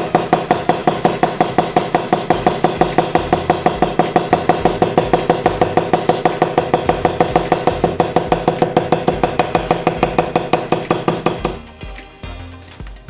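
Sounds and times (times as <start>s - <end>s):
hammer tapping leather on steel: 0.0s - 11.6s.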